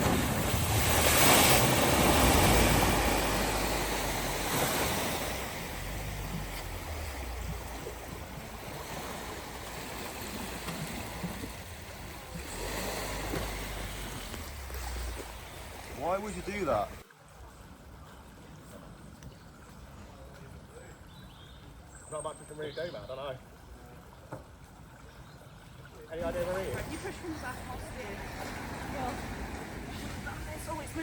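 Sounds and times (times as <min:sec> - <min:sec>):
water surging and splashing: 0:00.0 - 0:21.0, 0:23.2 - 0:31.0.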